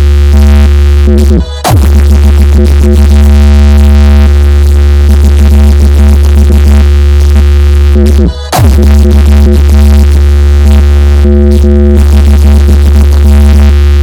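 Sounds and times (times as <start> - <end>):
loud electronic dance music: 0.0 - 14.0.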